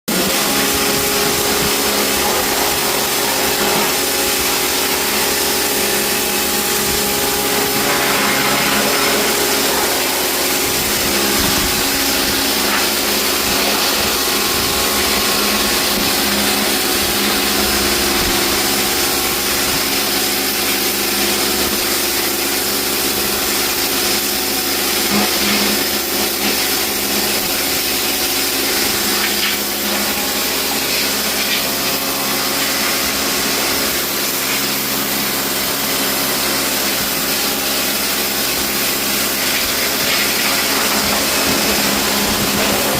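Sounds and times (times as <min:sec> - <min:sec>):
cleaning machine hissing: 0:00.1 - 0:42.9.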